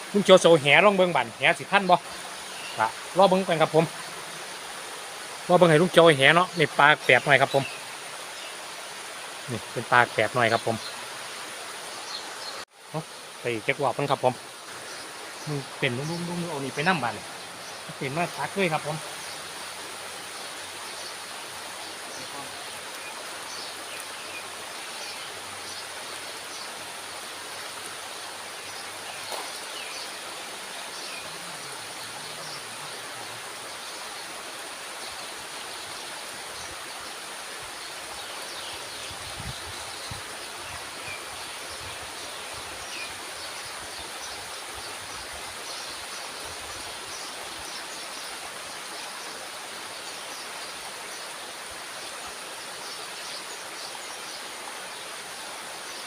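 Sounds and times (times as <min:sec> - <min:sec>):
water rushing through sluice gate: 0:00.0 - 0:56.0.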